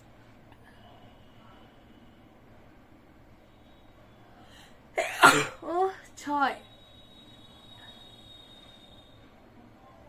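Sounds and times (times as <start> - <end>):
faint high whine: 0.0 - 10.0
faint low hum: 0.0 - 10.0.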